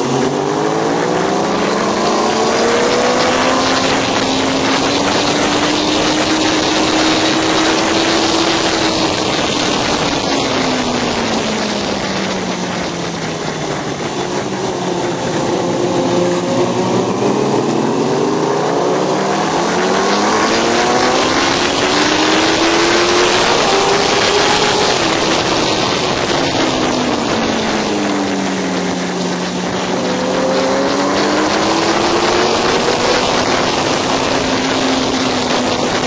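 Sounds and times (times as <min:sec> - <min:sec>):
racing motorcycle engine: 0:00.0 - 0:36.0
wind rush: 0:00.0 - 0:36.0.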